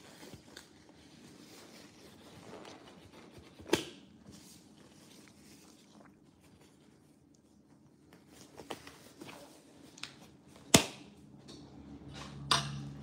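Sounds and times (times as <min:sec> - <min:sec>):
rubber gloves rustling and stretching: 0:00.0 - 0:10.6.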